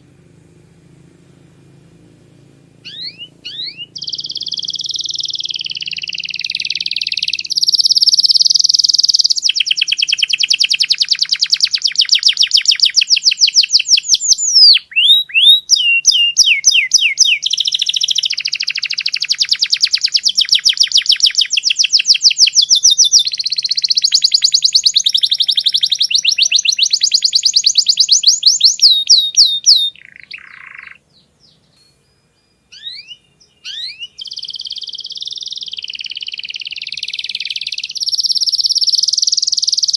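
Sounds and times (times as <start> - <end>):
canary singing trills: 1.6 - 39.9.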